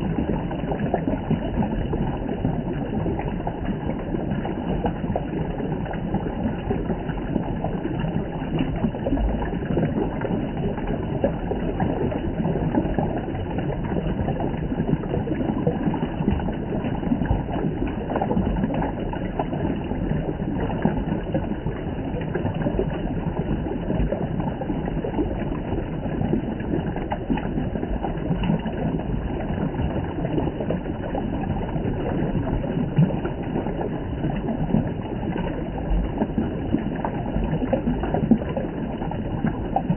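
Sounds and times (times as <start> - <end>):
spring water flowing and splashing: 0.0 - 39.9.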